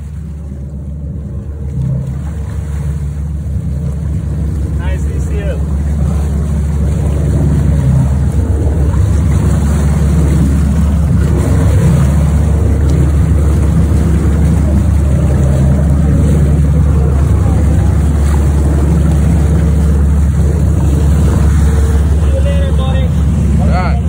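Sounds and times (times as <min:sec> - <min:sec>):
boat engine humming: 0:00.0 - 0:24.0
water splashing against hull: 0:00.0 - 0:24.0.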